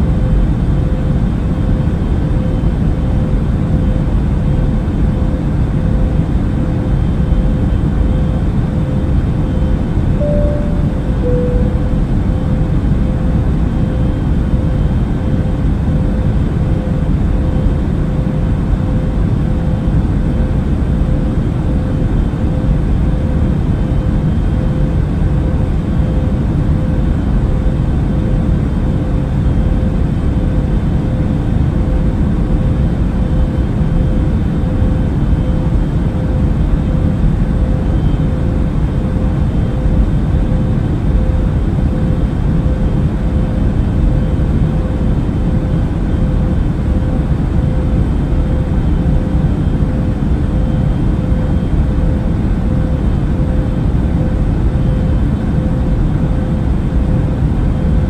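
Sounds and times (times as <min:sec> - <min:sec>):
airplane engine roar: 0:00.0 - 0:58.0.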